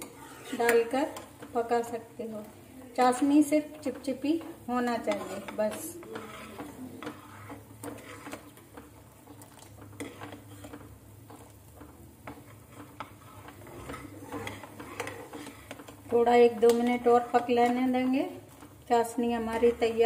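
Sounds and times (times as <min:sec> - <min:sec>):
ladle scraping a pan: 0:00.0 - 0:02.0, 0:03.1 - 0:20.0
syrup boiling: 0:00.0 - 0:20.0.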